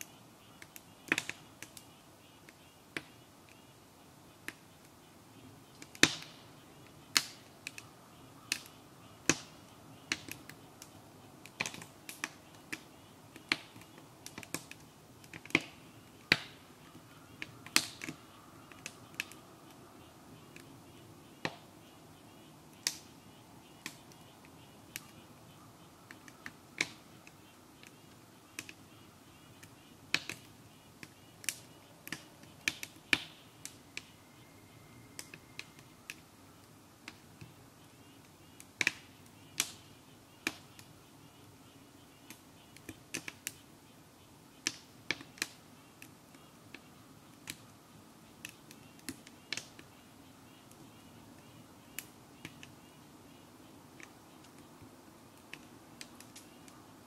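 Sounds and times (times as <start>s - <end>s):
low steady hiss: 0.0s - 57.0s
wood fire crackling: 0.0s - 57.0s.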